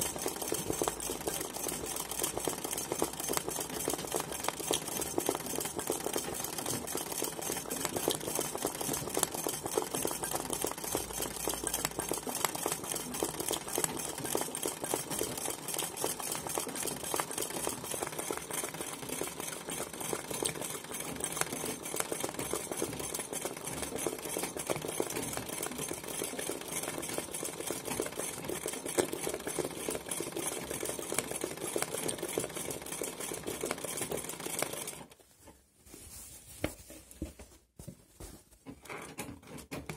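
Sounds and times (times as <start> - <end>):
sewing machine running fast: 0.0 - 35.2.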